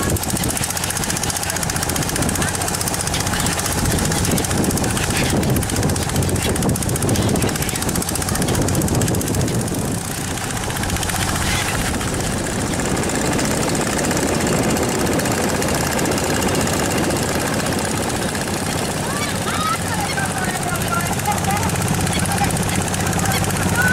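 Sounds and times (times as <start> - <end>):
boat engine chugging: 0.0 - 23.9.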